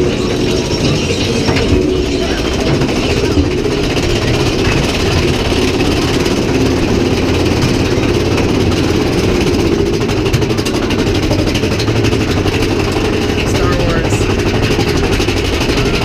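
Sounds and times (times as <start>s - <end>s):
ride train rumbling on track: 0.0s - 16.0s.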